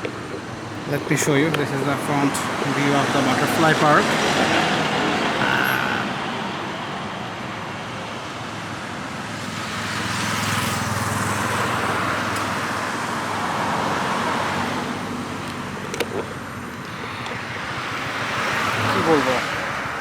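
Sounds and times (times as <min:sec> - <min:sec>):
motor vehicles passing: 0:00.0 - 0:20.0.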